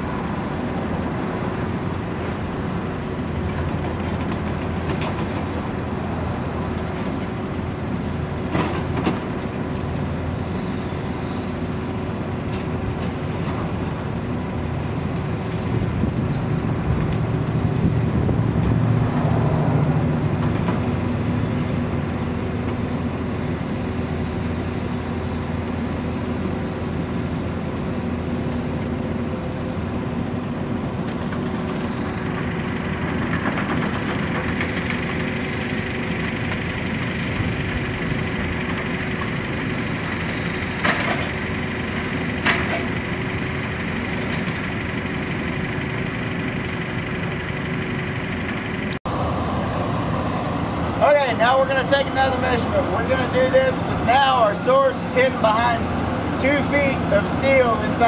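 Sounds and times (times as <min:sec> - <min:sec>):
heavy engine rumbling: 0:00.0 - 0:58.0.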